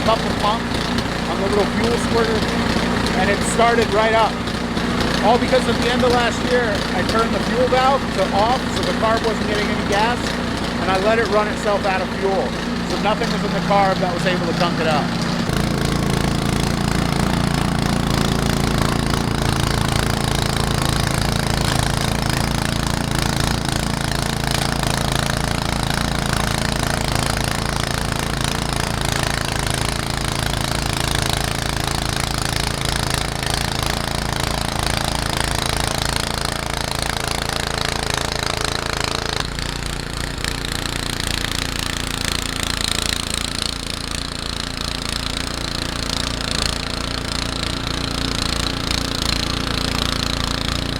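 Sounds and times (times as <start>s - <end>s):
snowblower engine running: 0.0s - 50.9s.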